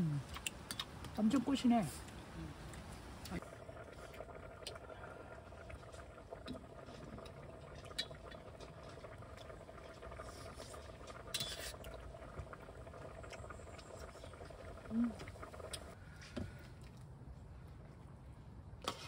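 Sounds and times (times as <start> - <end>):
soup simmering bubbling: 0.2 - 17.7.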